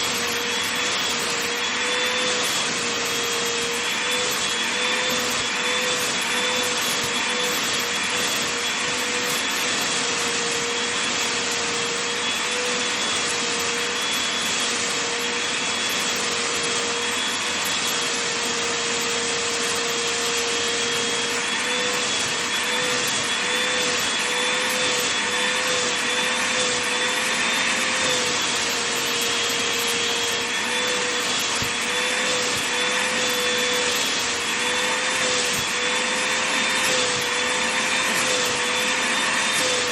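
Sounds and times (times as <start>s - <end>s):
vacuum cleaner whining: 0.0s - 39.9s.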